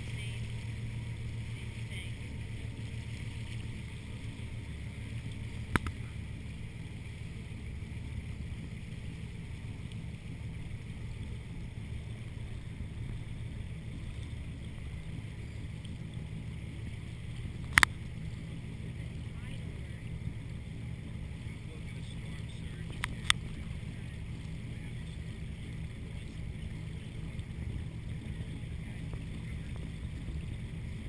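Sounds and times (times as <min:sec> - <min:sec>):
boat engine cruising: 0:00.0 - 0:31.0
water rushing along hull: 0:00.0 - 0:31.0.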